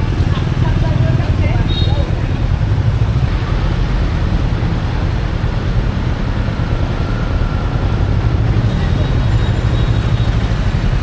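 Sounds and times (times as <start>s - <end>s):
hum of traffic: 0.0s - 11.0s
motorcycle engine and road noise: 0.0s - 11.0s.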